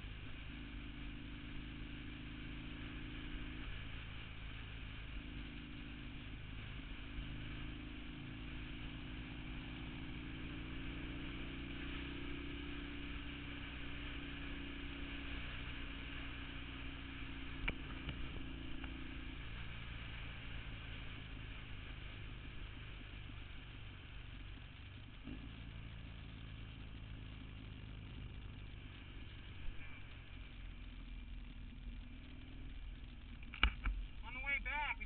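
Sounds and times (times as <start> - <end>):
vehicle engine hum and road noise: 0.0 - 35.0.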